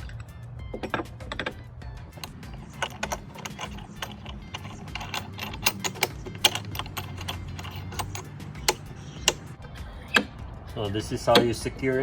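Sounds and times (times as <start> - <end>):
hardware clicking and clinking: 0.0 - 10.3.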